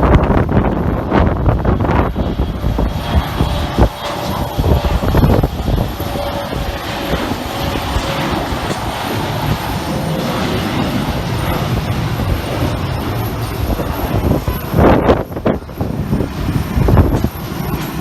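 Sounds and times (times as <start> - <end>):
airliner engines rumbling: 0.0 - 18.0.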